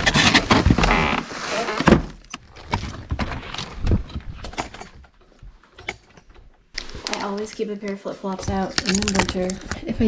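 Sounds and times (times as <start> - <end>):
rustling and handling noise: 0.0 - 10.0.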